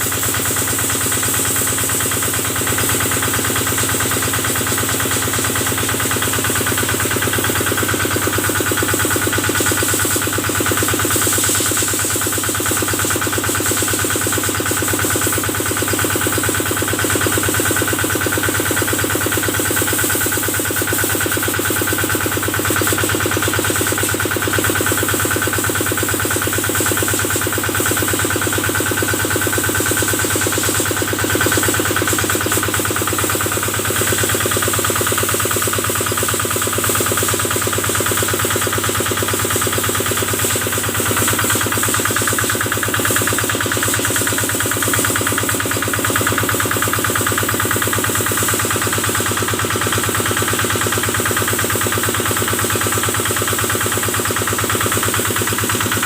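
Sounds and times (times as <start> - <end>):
small diesel engine running: 0.0 - 56.0.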